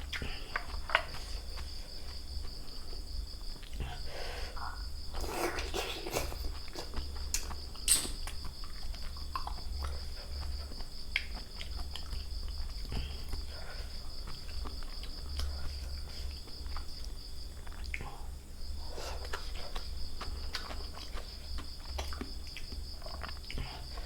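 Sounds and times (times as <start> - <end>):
crickets trilling: 0.0 - 24.0
people eating crunchily: 0.0 - 24.0.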